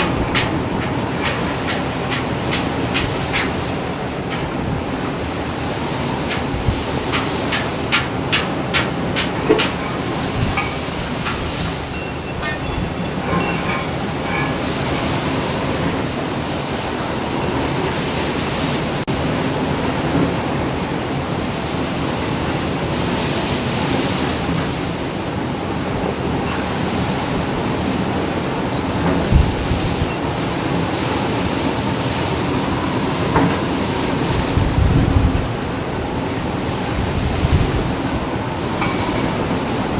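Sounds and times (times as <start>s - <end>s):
ship engine rumble: 0.0s - 39.9s
waves and sea noise: 0.0s - 39.9s.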